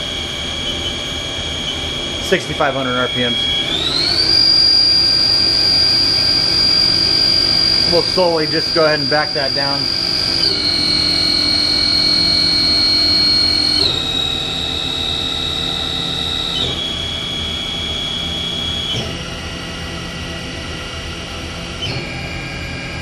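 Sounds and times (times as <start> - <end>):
mill spindle high whine: 0.0 - 23.0.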